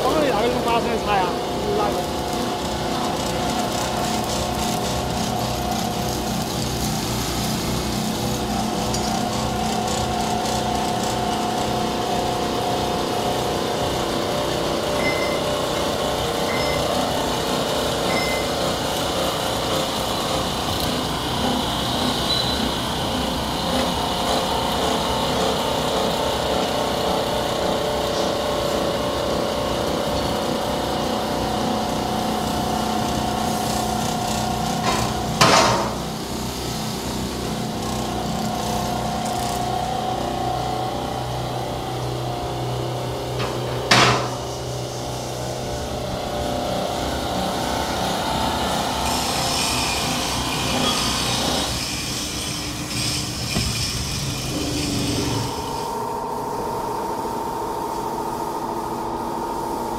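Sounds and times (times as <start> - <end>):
polishing machine hum and whine: 0.0 - 59.9.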